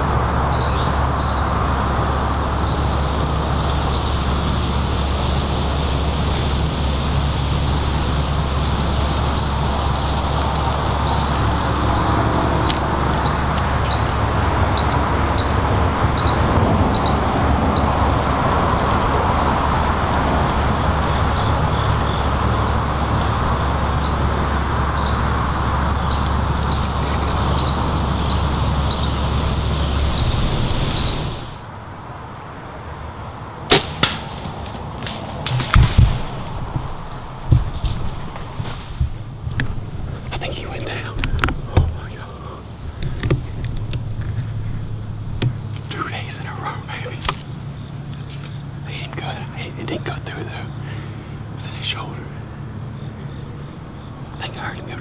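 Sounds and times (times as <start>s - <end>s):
background rush: 0.0s - 55.0s
high-pitched insect drone: 0.0s - 55.0s
insect chirps: 0.0s - 55.0s
steady low hum: 0.0s - 55.0s.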